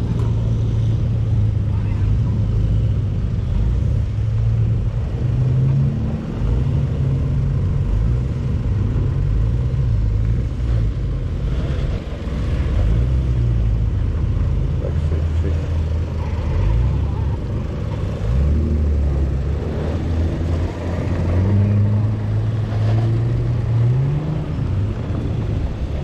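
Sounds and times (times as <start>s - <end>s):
off-road engine revving: 0.0s - 26.0s.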